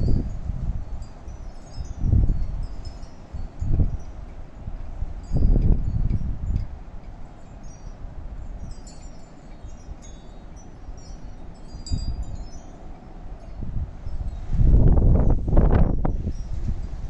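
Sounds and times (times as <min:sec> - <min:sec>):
wind chimes tinkling: 0:00.0 - 0:17.0
wind rumble on microphone: 0:00.0 - 0:17.0.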